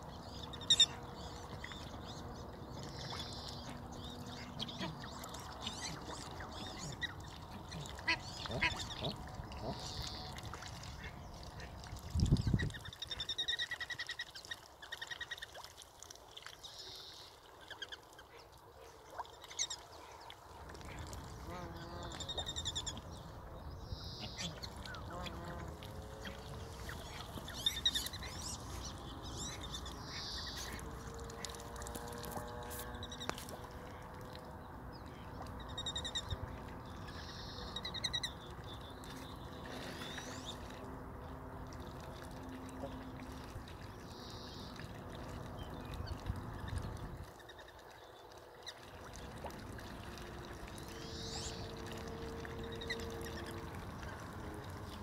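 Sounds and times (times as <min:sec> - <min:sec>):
ducks and birds calling: 0:00.0 - 0:15.7, 0:16.4 - 0:55.0
pond outdoor background: 0:00.0 - 0:55.0.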